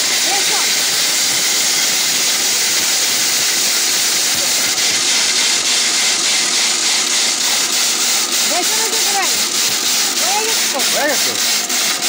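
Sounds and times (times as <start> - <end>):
mixer grinder running: 0.0 - 12.0.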